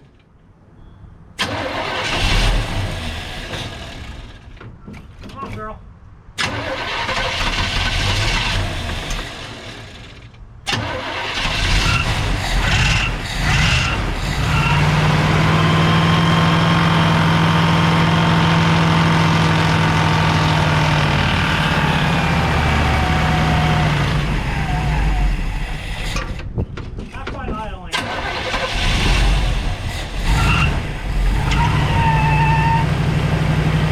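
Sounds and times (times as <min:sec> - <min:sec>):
car engine starting and running roughly: 0:01.4 - 0:04.7, 0:06.4 - 0:26.6, 0:27.9 - 0:33.9.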